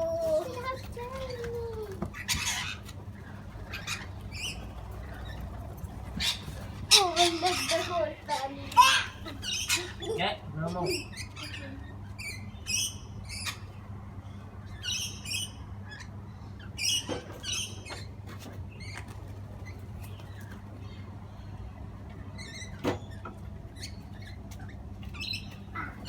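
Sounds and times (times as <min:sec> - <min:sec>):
parrots chirping: 0:00.0 - 0:13.8, 0:14.6 - 0:18.1, 0:22.4 - 0:26.0.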